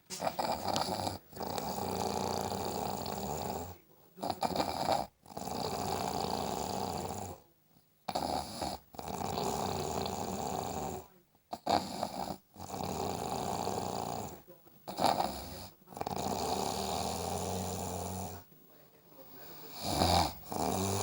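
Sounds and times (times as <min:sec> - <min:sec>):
person snoring: 0:00.1 - 0:07.4, 0:08.1 - 0:18.5, 0:19.4 - 0:21.0.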